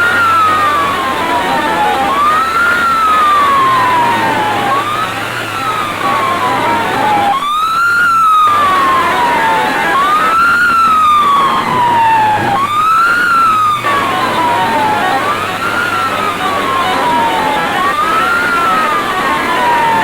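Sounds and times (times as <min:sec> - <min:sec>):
wailing siren effect: 0:00.0 - 0:20.0.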